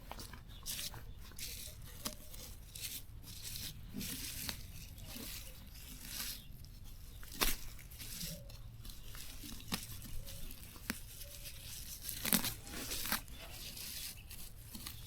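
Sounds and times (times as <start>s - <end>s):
plants rustling and tearing: 0.0s - 15.0s.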